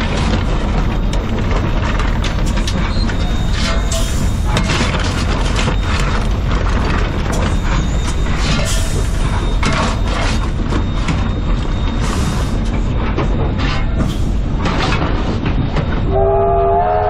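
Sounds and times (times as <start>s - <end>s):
locomotive low rumble: 0.0s - 17.0s.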